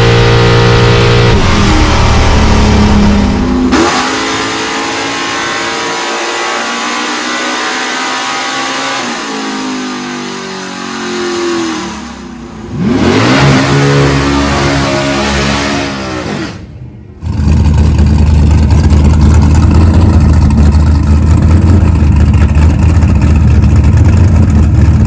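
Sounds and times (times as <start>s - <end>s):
car engine revving hard: 0.0s - 23.3s.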